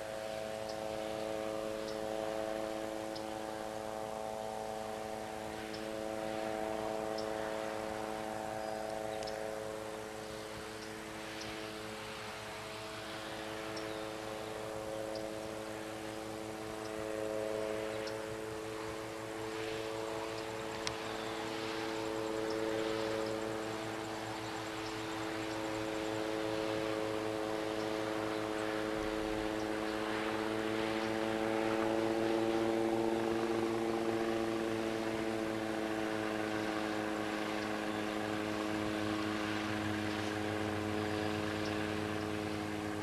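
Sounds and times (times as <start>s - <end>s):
distant helicopter drone: 0.0s - 43.0s.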